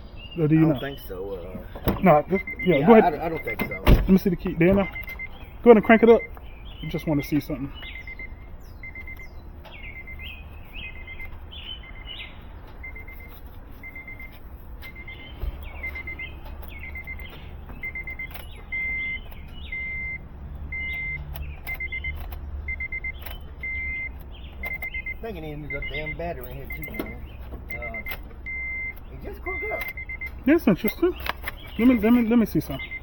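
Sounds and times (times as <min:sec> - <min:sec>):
birds chirping: 0:00.0 - 0:33.0
car warning chime beeping: 0:00.5 - 0:33.0.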